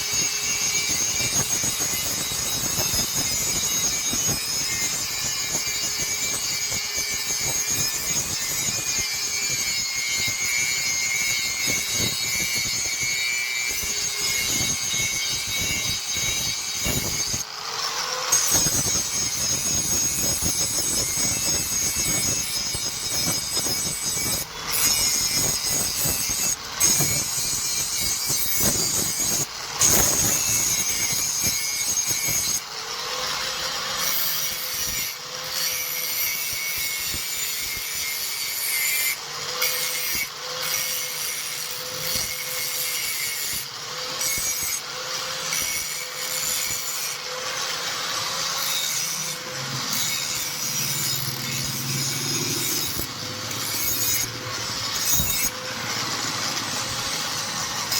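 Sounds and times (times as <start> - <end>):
steel blade rasping: 0.0 - 57.9.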